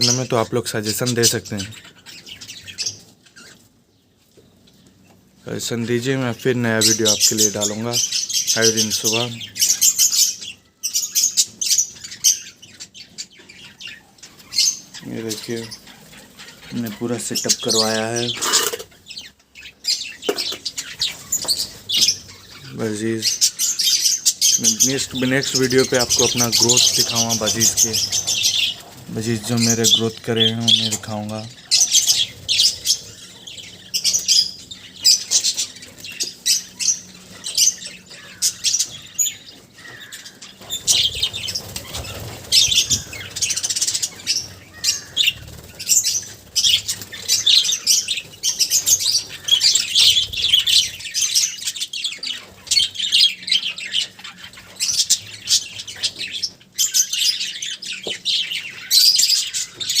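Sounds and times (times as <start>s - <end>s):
budgerigars chattering and chirping: 0.0s - 60.0s.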